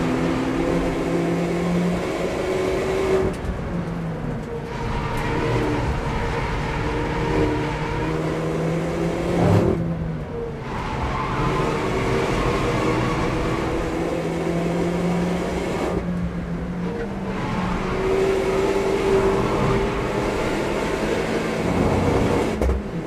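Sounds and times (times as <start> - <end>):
car engine at speed: 0.0 - 23.0.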